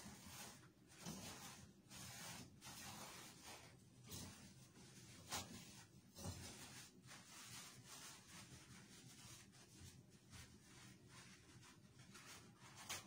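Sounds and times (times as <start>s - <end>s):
cloth rubbing on fixtures: 0.0s - 13.0s.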